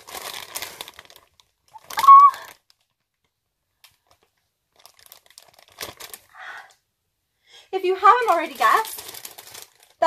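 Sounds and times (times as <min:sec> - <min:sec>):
packaging rustling: 0:00.0 - 0:06.6, 0:08.0 - 0:10.0.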